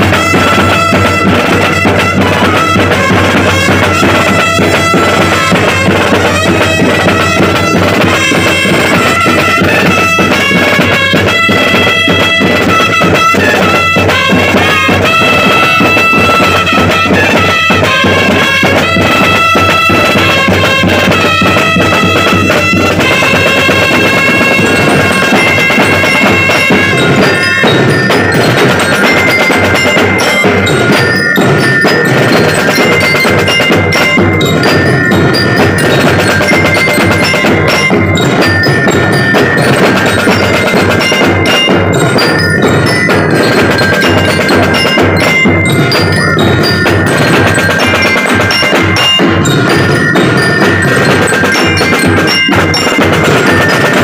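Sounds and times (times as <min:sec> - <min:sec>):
bell lyres playing melody: 0:00.0 - 0:54.0
marching drum beats: 0:00.0 - 0:54.0.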